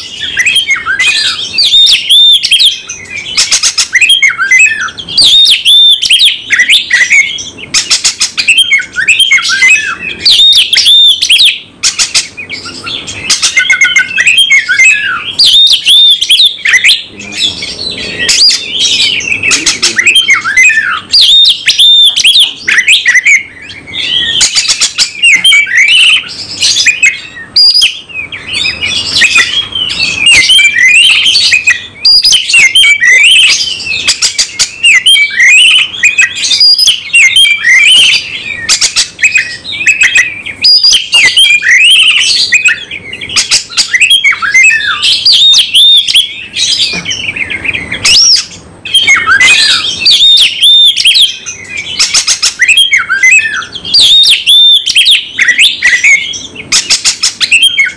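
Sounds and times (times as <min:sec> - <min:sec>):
bird singing whistles and chirps: 0:00.0 - 0:57.9.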